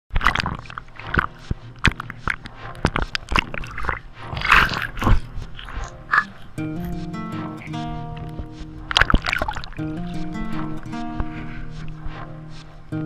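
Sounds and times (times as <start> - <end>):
waves splashing against camera housing: 0.2 - 13.0
background music: 1.0 - 13.0.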